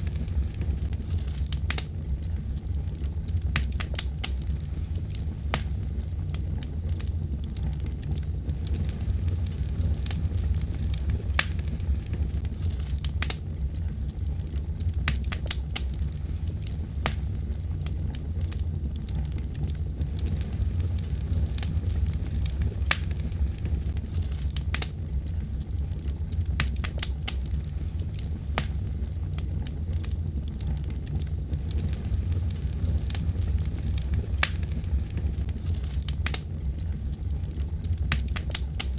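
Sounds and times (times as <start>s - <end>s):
logs crackling and popping: 0.0s - 38.9s
wood fire rumbling: 0.0s - 38.9s.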